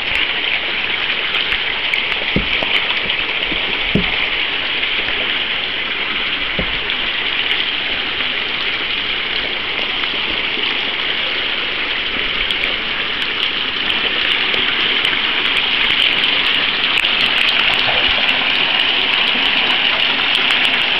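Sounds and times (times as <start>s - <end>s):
meltwater rushing: 0.0s - 20.9s.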